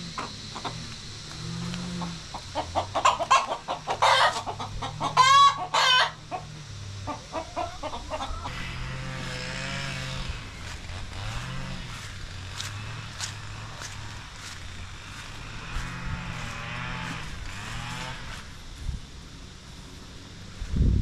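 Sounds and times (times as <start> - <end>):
chickens clucking: 0.0 - 18.5
low steady hum: 0.0 - 21.0.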